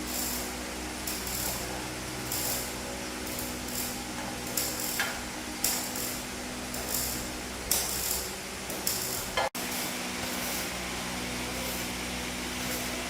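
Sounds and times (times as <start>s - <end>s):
machine hum: 0.0s - 13.0s
sharp metallic strokes: 0.0s - 13.0s.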